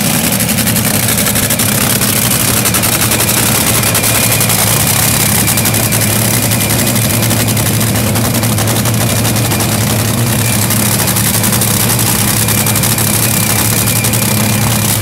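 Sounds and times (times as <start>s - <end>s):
dragster engine idling: 0.0s - 15.0s.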